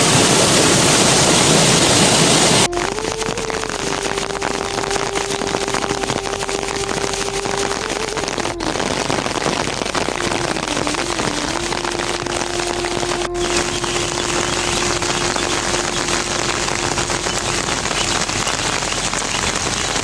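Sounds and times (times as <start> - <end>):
faint steady hum: 0.0 - 20.0
steady rain patter: 0.0 - 20.0.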